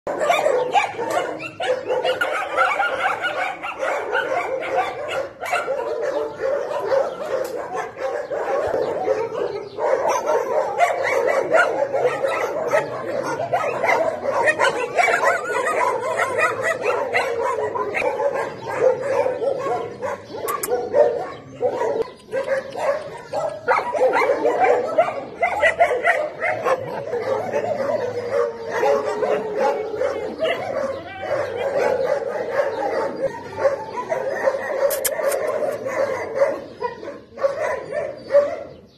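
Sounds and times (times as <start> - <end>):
dogs whimpering: 0.1 - 38.9
many dogs barking: 0.1 - 38.9.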